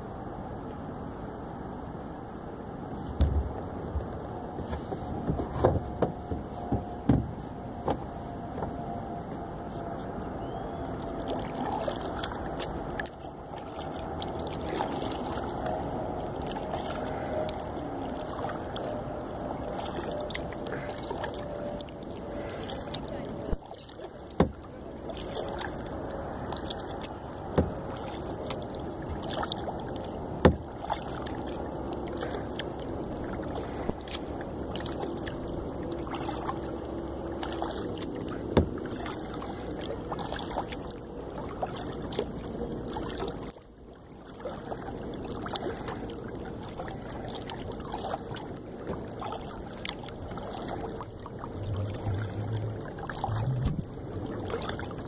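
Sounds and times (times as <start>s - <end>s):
paddle strokes in water: 2.9s - 55.0s.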